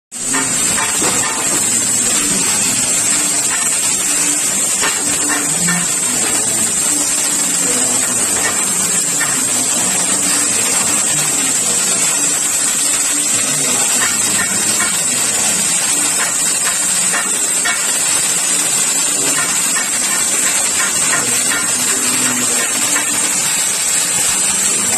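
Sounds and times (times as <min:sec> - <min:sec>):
cutting torch hissing: 0:00.1 - 0:24.9.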